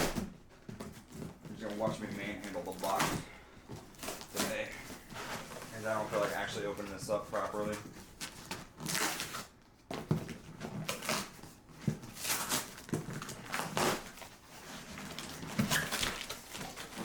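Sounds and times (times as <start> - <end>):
cardboard tearing and scraping: 0.0 - 17.0.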